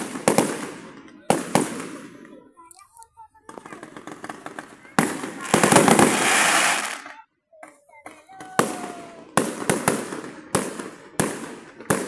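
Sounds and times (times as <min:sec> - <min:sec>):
fireworks bangs echoing: 0:00.0 - 0:02.6, 0:03.4 - 0:12.0
fireworks crackling: 0:00.0 - 0:12.0.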